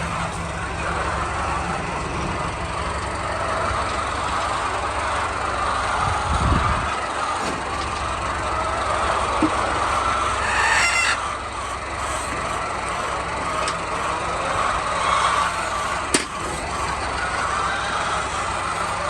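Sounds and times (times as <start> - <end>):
chickens clucking: 0.0 - 19.0
low mechanical hum: 0.0 - 19.0.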